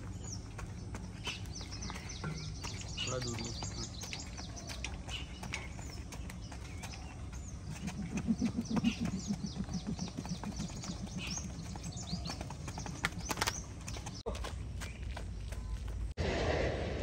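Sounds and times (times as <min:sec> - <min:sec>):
battle ropes slapping asphalt: 0:00.0 - 0:16.1.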